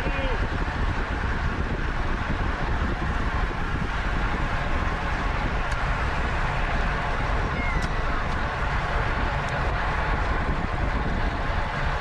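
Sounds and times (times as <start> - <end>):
road and tyre noise: 0.0 - 12.0
wind rushing over microphone: 0.0 - 12.0.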